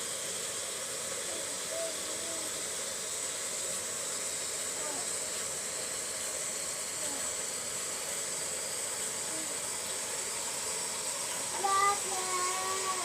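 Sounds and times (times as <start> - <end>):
tap water running through hose: 0.0 - 13.0.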